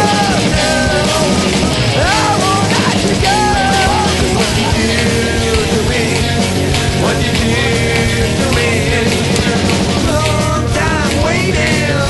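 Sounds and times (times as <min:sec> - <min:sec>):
punk rock music with singing: 0:00.0 - 0:12.0.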